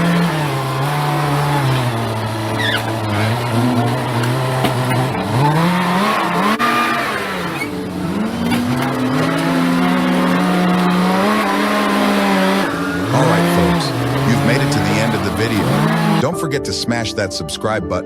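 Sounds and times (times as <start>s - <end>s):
vehicle engine revving: 0.0s - 16.4s.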